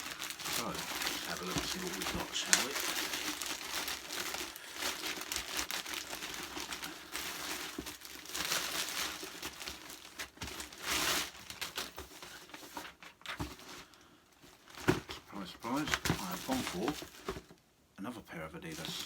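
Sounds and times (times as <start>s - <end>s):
packaging crinkling and rustling: 0.0s - 17.6s, 18.6s - 19.0s.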